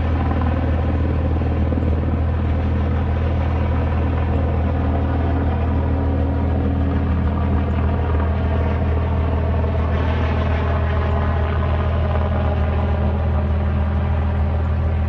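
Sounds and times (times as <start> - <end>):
helicopter droning: 0.0 - 15.0.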